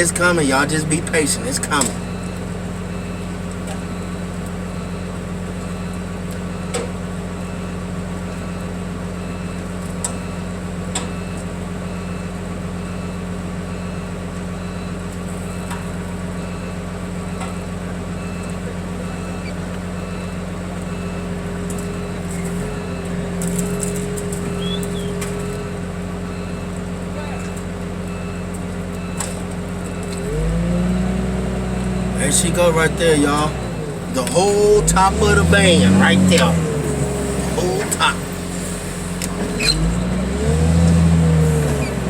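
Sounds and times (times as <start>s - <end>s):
heavy equipment engine running: 0.0s - 42.0s.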